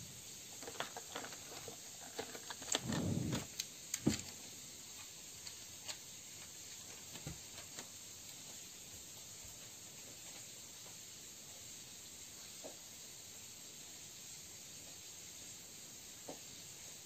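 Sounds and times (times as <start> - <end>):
room hiss: 0.0 - 17.0.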